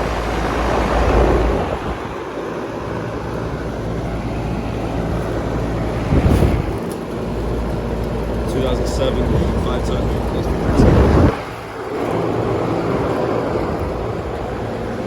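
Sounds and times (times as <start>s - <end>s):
air conditioner fan rushing: 0.0s - 15.0s.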